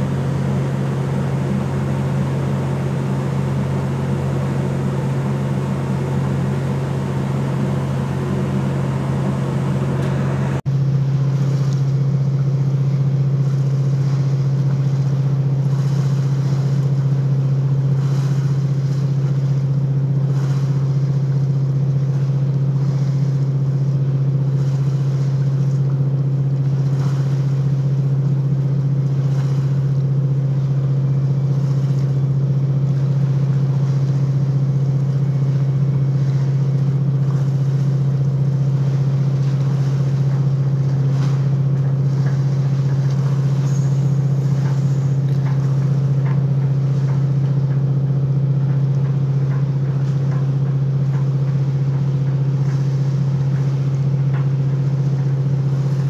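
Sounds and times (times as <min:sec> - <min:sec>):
ship diesel engine droning: 0:00.0 - 0:56.0.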